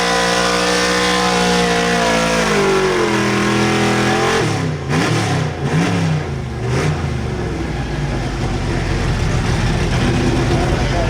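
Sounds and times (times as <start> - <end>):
truck engine revving and idling: 0.0 - 11.0.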